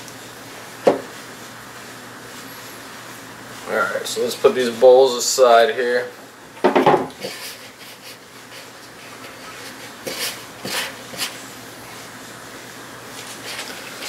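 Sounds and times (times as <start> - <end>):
hands mixing dough in a bowl: 0.0 - 6.1, 7.1 - 14.0.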